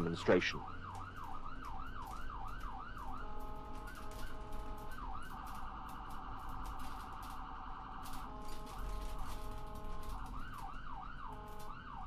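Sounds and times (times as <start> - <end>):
electronic siren yelp and warble: 0.0 - 12.0.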